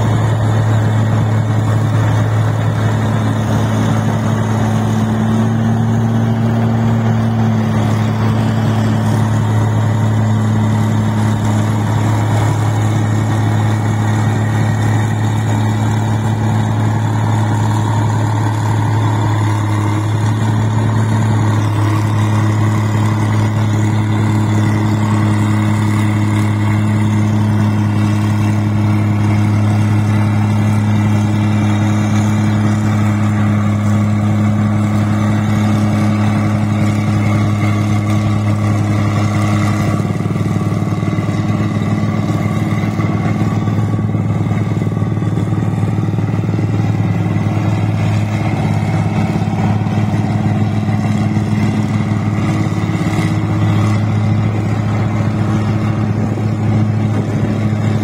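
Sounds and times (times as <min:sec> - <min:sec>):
combine harvester engine droning: 0:00.0 - 0:58.0.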